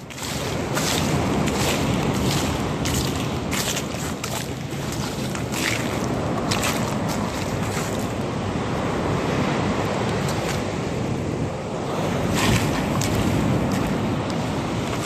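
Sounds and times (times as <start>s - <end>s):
surf washing on shore: 0.0s - 15.0s
wind buffeting microphone: 0.0s - 15.0s.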